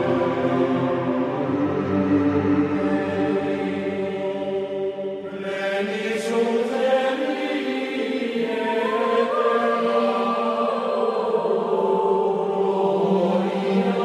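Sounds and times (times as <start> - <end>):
slow choral chanting: 0.0 - 14.0.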